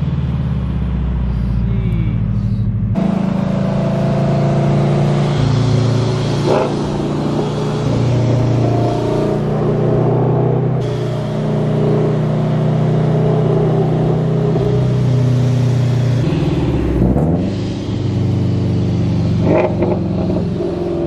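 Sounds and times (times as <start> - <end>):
car exhaust rumble: 0.0 - 21.0.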